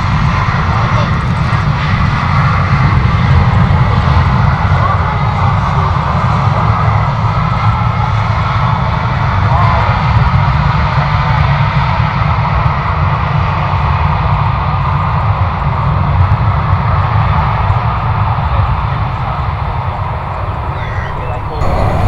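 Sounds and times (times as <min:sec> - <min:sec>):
jet engine rumble: 0:00.0 - 0:10.2, 0:14.5 - 0:22.0.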